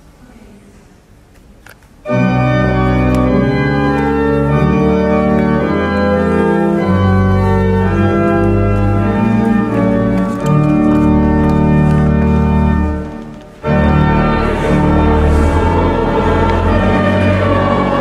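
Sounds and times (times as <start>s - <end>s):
pipe organ chords: 2.0s - 18.0s.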